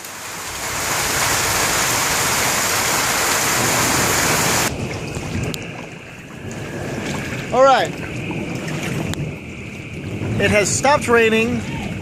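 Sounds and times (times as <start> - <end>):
heavy rain pouring: 0.0 - 12.0
low rush of water: 0.0 - 12.0.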